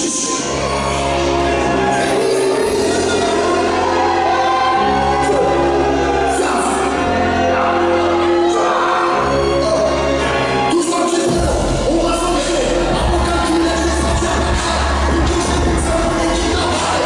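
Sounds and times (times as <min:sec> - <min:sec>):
choral music over loudspeakers: 0:00.0 - 0:17.0.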